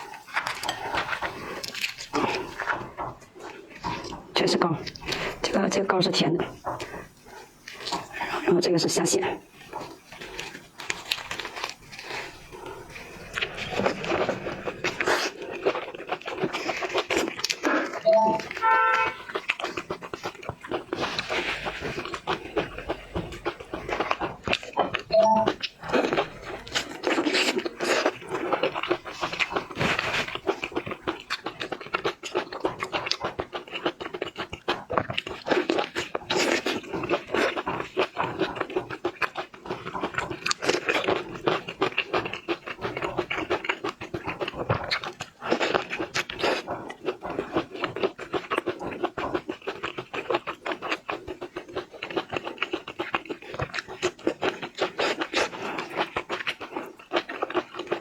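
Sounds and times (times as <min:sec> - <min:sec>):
person chewing and slurping: 0:00.0 - 0:58.0.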